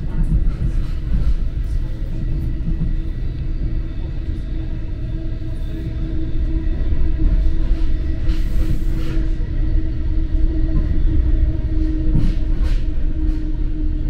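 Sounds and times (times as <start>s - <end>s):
train rumbling in motion: 0.0s - 14.0s.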